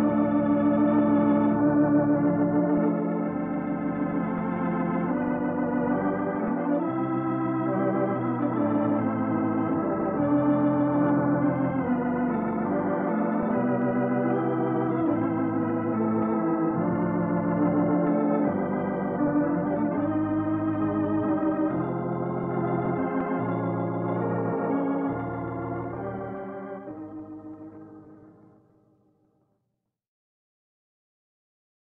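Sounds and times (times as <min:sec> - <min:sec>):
organ playing sustained chords: 0:00.0 - 0:28.6.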